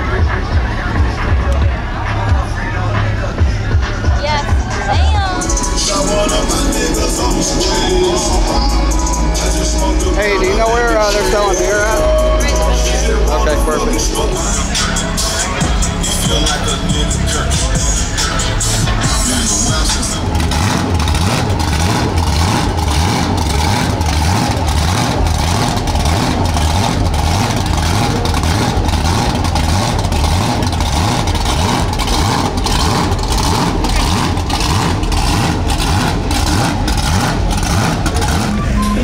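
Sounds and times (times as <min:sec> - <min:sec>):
music with heavy bassline: 0:00.0 - 0:39.0
truck engine: 0:00.0 - 0:39.0.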